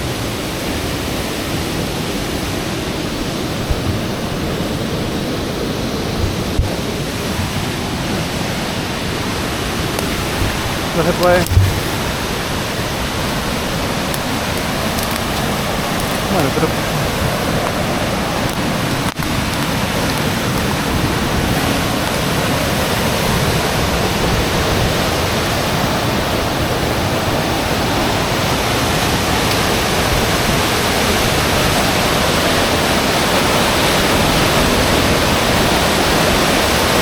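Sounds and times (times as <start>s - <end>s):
fast-flowing river water rushing: 0.0s - 37.0s.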